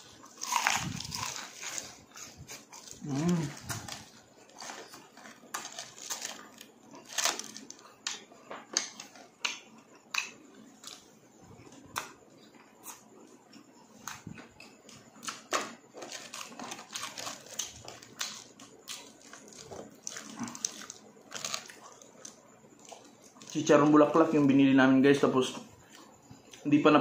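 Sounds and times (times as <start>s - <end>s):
crunchy chewing: 0.0s - 24.4s.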